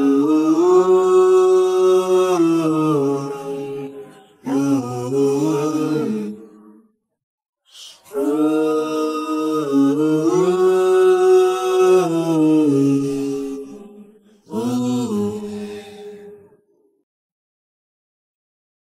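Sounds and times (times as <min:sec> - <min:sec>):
slow wordless chant-like vocal: 0:00.0 - 0:07.0, 0:07.7 - 0:17.0.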